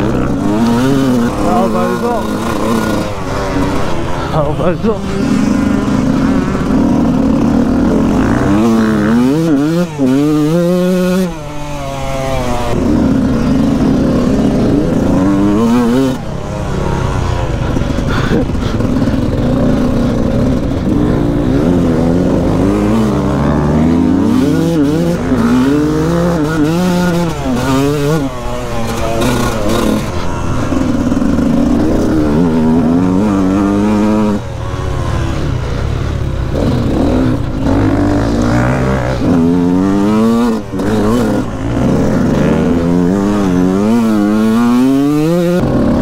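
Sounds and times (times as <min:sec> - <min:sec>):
motocross bike engine revving: 0:00.0 - 0:46.0.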